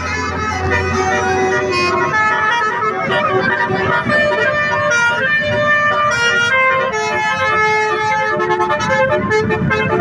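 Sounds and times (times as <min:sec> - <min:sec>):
bus air horns playing a tune: 0:00.0 - 0:10.0.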